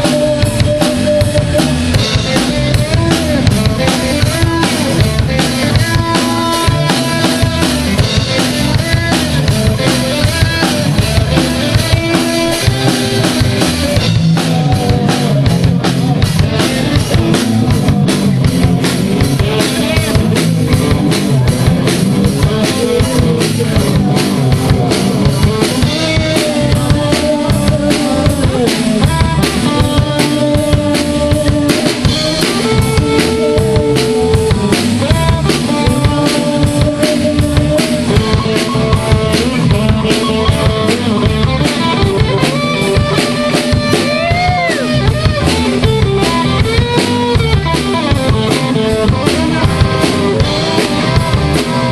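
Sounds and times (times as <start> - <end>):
bass drum and snare beat: 0.0 - 51.9
live band playing: 0.0 - 51.9.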